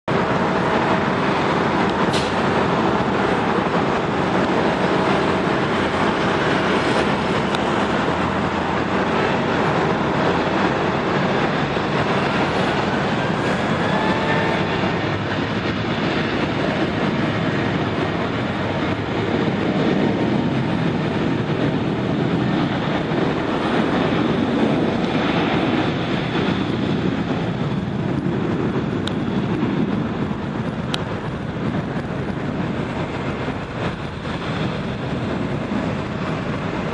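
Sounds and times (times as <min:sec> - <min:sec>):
jet engines at takeoff thrust: 0:00.0 - 0:36.9
wheels rumbling on runway: 0:00.0 - 0:36.9.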